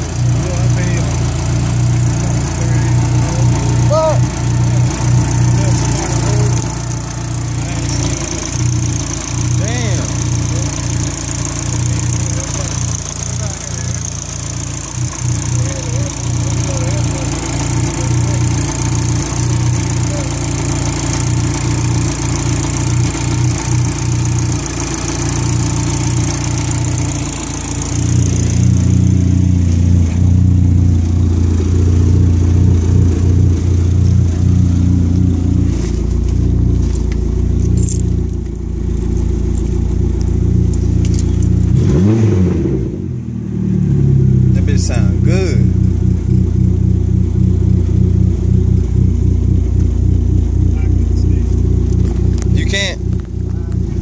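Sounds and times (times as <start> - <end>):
car engine idling: 0.0 - 54.0
engine revving: 0.0 - 54.0.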